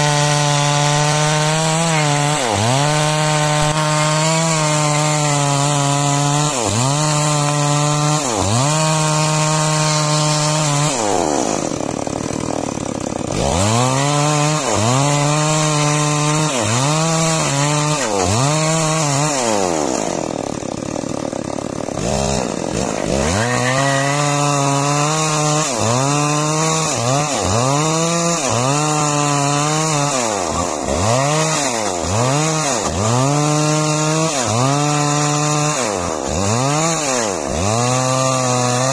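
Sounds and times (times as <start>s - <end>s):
chainsaw sawing timber: 0.0s - 38.9s.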